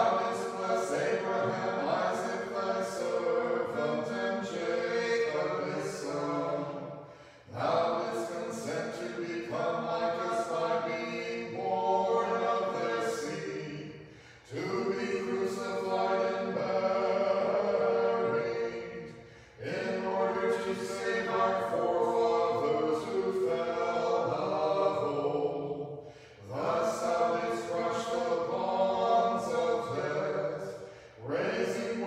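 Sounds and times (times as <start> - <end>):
choir chanting unaccompanied: 0.0 - 32.0.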